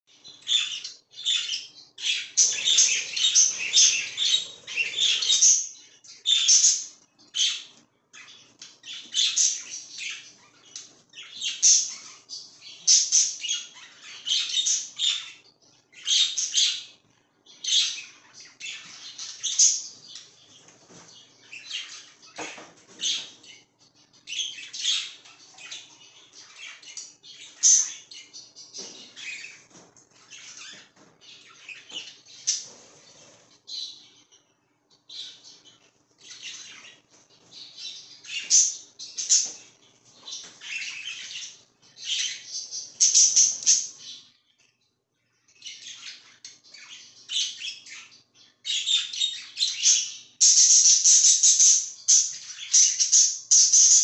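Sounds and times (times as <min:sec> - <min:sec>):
budgerigars chirping: 0:00.1 - 0:20.6, 0:21.2 - 0:34.5, 0:35.1 - 0:44.3, 0:45.5 - 0:54.0.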